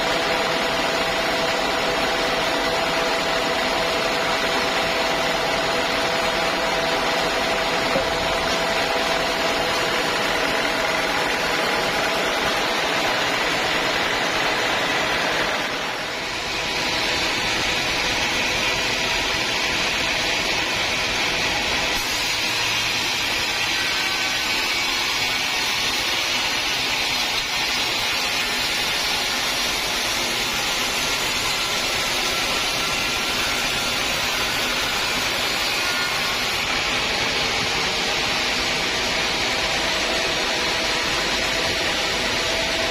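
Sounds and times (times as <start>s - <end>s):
sawmill saw cutting log: 0.0s - 42.9s.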